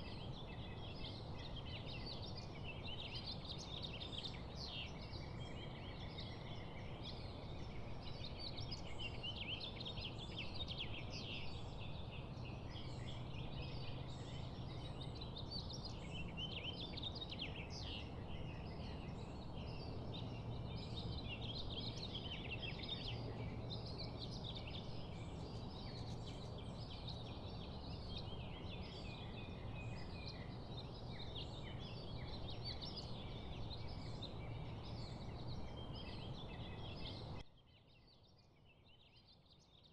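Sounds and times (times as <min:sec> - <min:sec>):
many birds calling and chattering: 0:00.0 - 0:37.4
low steady background rumble: 0:00.0 - 0:37.5.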